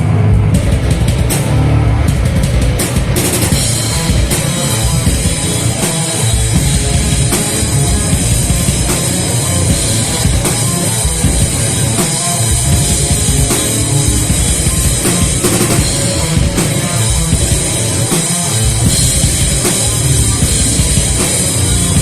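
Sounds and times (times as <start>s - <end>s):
heavy metal band playing: 0.0s - 22.0s
pounding drum kit: 0.0s - 22.0s.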